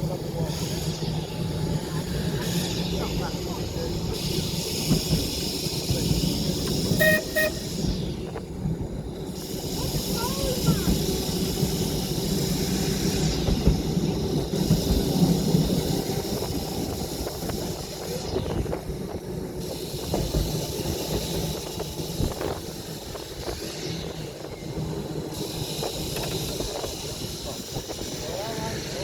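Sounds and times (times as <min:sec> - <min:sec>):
hiss: 0:00.0 - 0:29.0
tram wheels and motor rumbling: 0:00.0 - 0:29.0.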